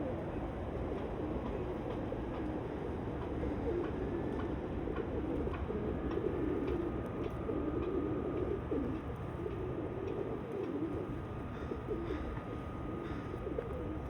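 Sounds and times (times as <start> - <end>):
pigeons cooing: 1.2 - 14.0.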